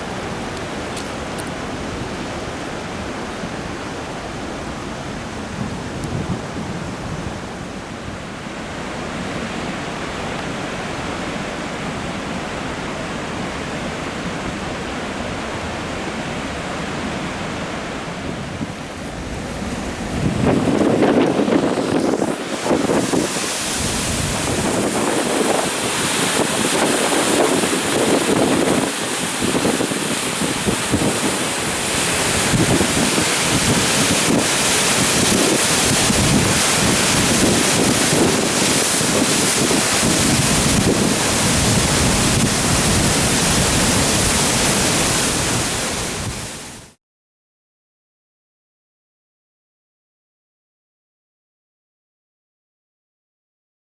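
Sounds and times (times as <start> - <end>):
water rushing from dam spillway: 0.0 - 47.0
wind gusting against microphone: 0.0 - 47.0.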